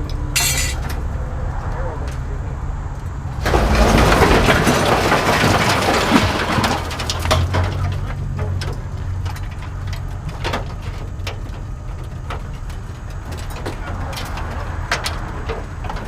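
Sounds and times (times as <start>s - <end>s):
engine rumbling: 0.0s - 16.0s
scrap metal clanking: 0.4s - 1.1s, 3.4s - 16.0s.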